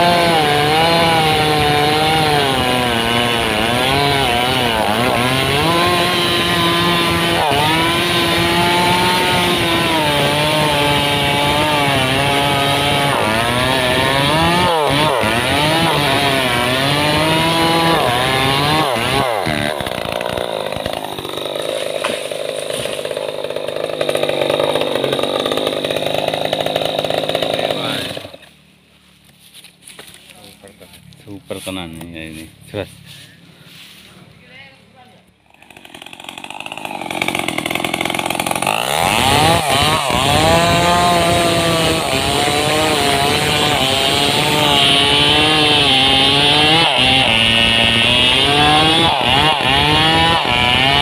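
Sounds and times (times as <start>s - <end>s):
chainsaw cutting through wood: 0.0s - 28.6s, 34.5s - 51.0s.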